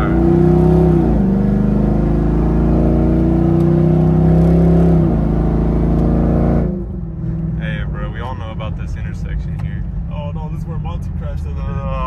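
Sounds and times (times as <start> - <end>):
car engine accelerating: 0.0 - 12.0
low road rumble: 0.0 - 12.0.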